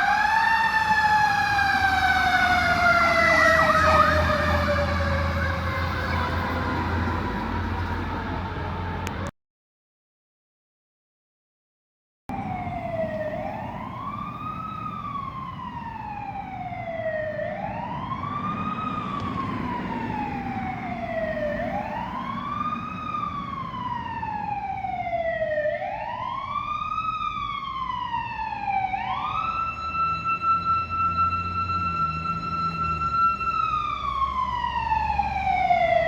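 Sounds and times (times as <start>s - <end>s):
fire engine siren wailing: 0.0s - 9.3s, 12.3s - 36.0s.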